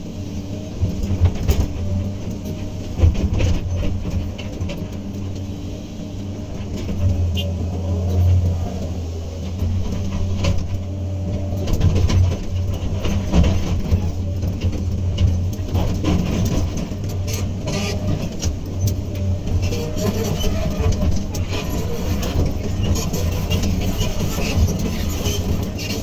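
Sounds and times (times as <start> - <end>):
excavator diesel engine humming: 0.0 - 26.0
clanks and knocks: 0.8 - 5.5, 6.5 - 26.0.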